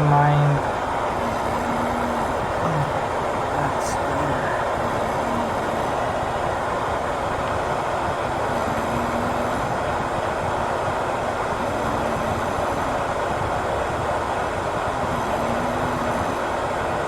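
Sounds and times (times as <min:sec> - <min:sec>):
white noise from speaker: 0:00.0 - 0:17.0.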